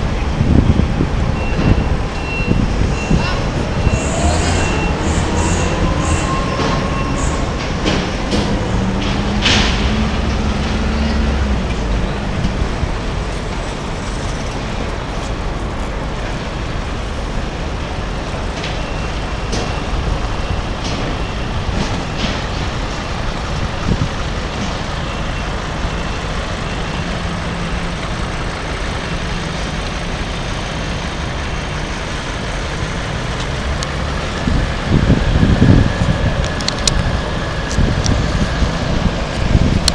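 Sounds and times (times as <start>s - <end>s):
steady outdoor roar: 0.0s - 39.9s.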